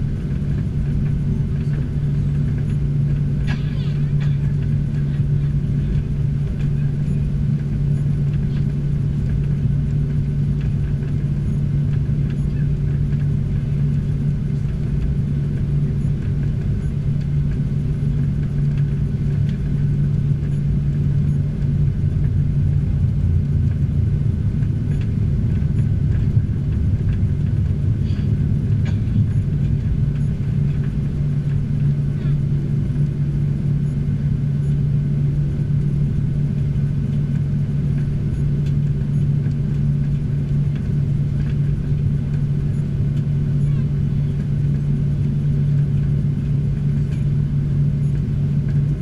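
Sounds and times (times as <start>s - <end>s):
jet engine drone in cabin: 0.0s - 49.0s.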